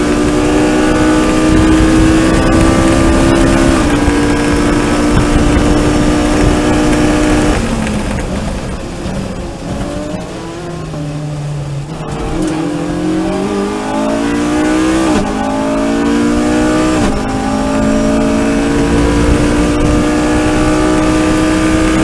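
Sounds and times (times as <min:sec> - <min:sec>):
race car engine accelerating: 0:00.0 - 0:22.0
wind and road noise: 0:00.0 - 0:22.0.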